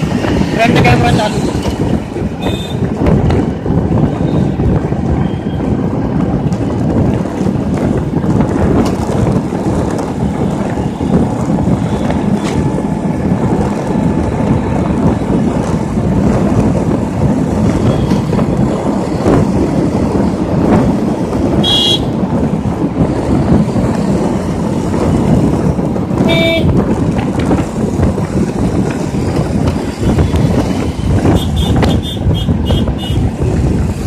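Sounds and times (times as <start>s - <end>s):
motorcycle engine and road roar: 0.0s - 34.0s
wind rushing over microphone: 0.0s - 34.0s.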